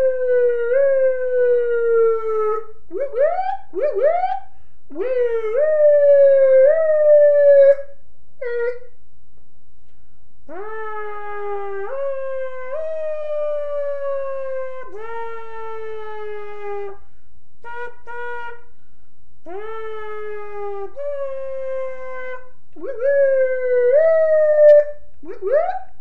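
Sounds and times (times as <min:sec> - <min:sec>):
person imitating a siren: 0:00.0 - 0:08.9, 0:10.5 - 0:17.0, 0:17.6 - 0:18.7, 0:19.5 - 0:26.0.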